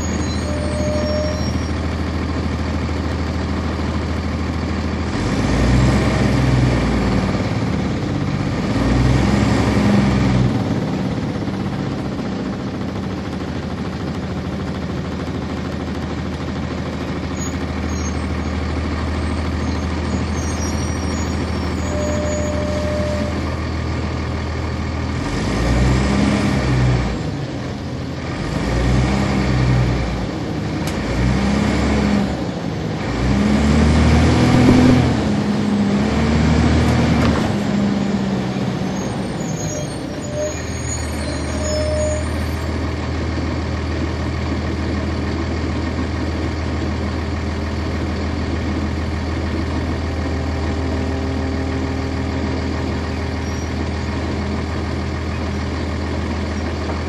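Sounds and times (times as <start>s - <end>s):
bus diesel engine revving: 0.0s - 57.0s.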